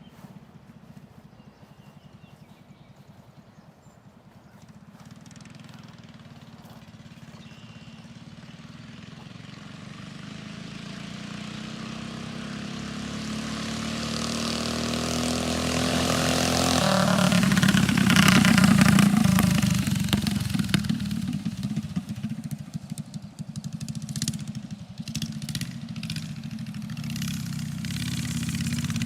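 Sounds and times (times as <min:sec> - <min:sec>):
mini bike engine running: 0:00.0 - 0:29.0.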